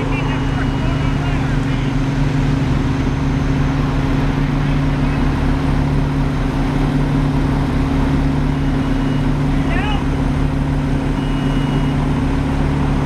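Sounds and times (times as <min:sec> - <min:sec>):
fire truck engine droning: 0:00.0 - 0:13.0.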